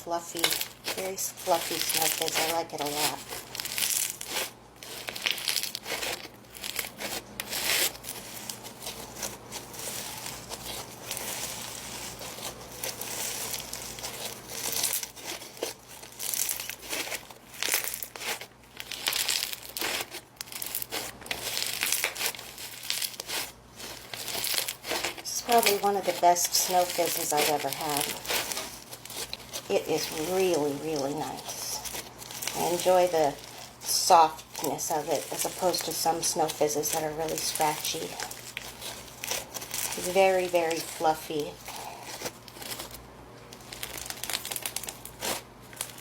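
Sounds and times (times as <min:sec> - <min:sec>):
slime crackling as squeezed: 0:00.0 - 0:46.0.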